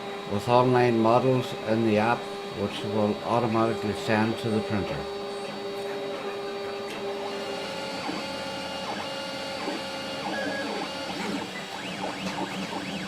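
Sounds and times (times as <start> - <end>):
printer stepper motors whining: 0.0 - 13.0.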